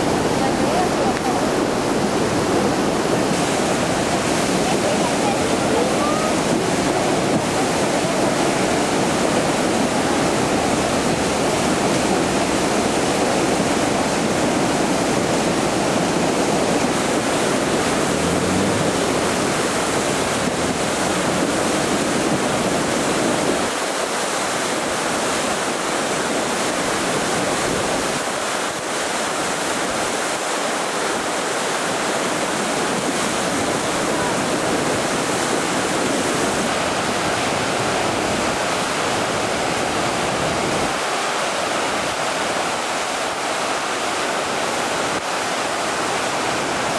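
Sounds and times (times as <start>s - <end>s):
flood water rushing against wall: 0.0s - 46.9s.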